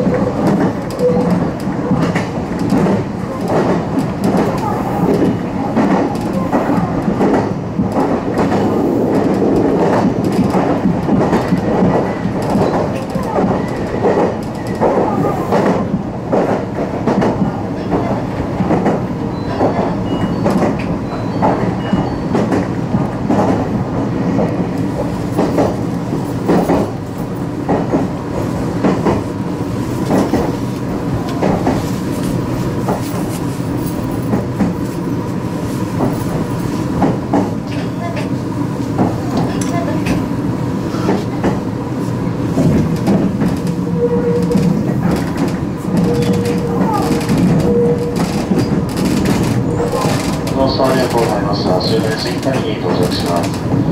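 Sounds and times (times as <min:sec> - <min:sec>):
train wheels rumbling on track: 0:00.0 - 0:53.9.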